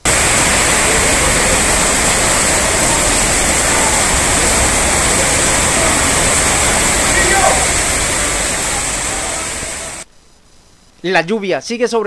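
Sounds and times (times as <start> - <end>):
heavy rain pouring: 0.0 - 10.1.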